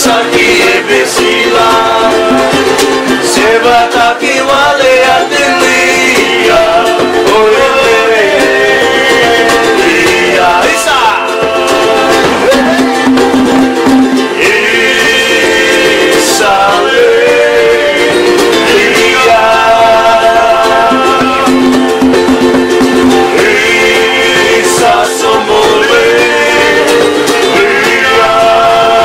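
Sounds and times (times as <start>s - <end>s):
men singing in harmony: 0.0s - 13.2s, 14.2s - 29.0s
strummed ukulele and guitar: 0.0s - 29.0s.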